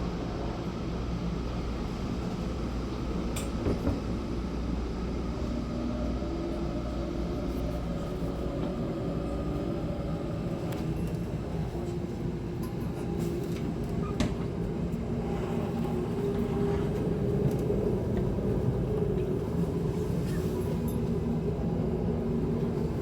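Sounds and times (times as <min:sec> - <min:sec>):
train running rumble and hum: 0:00.0 - 0:23.0.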